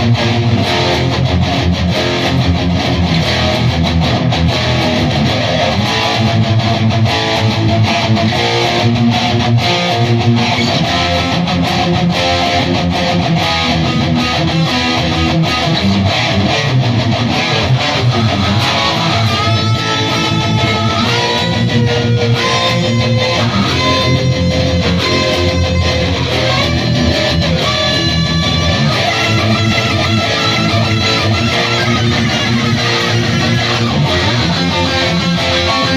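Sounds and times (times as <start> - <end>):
electric guitar riffing: 0.0 - 35.9.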